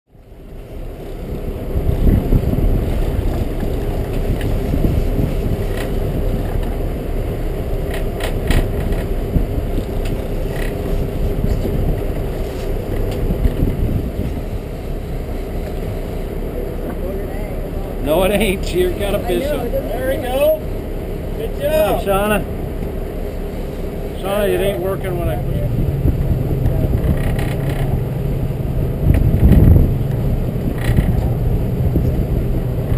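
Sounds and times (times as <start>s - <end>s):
boat engines humming: 0.1s - 32.9s
low uneven rumble: 0.1s - 32.9s.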